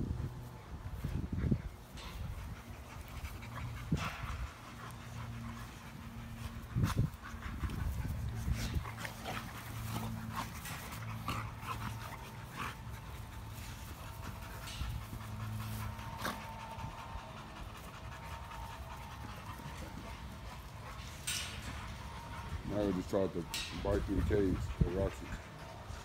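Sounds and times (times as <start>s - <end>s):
dogs panting: 0.3s - 26.0s.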